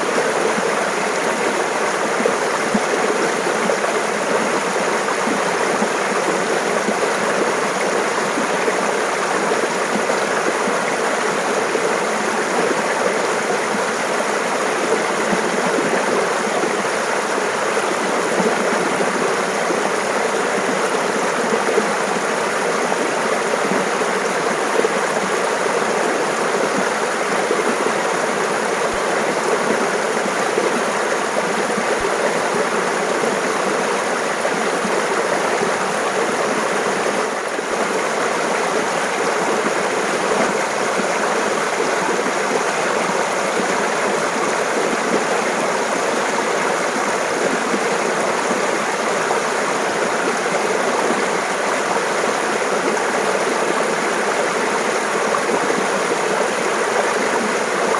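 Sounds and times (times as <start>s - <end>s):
water flowing over rocks: 0.0s - 57.9s.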